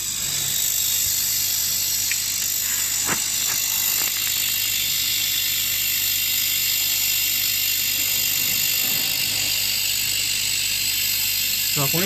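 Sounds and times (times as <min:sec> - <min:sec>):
laser cutting machine hiss and hum: 0:00.0 - 0:12.0.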